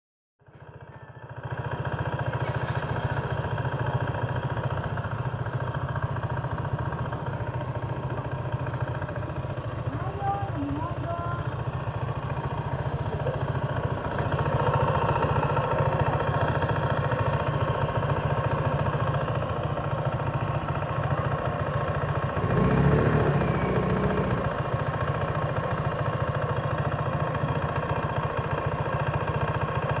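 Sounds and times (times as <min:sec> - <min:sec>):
scooter engine running roughly: 0:00.4 - 0:30.0.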